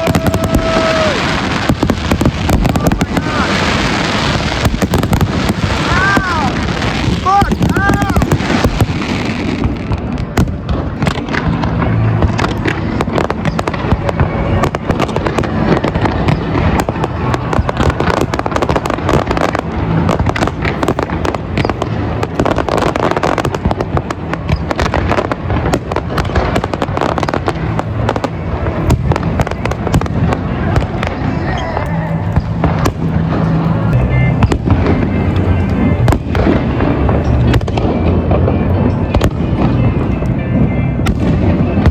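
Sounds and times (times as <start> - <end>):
fireworks bangs and crackling: 0.0 - 41.9
low rumble of bursts: 0.0 - 41.9.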